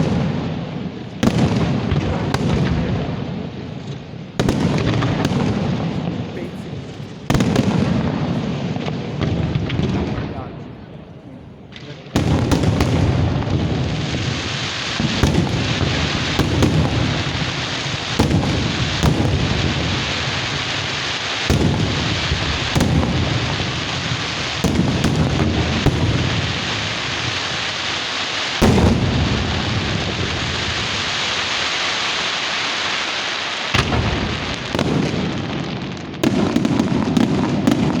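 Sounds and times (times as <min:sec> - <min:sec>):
fireworks banging: 0:00.0 - 0:38.0
fireworks crackling: 0:00.0 - 0:38.0.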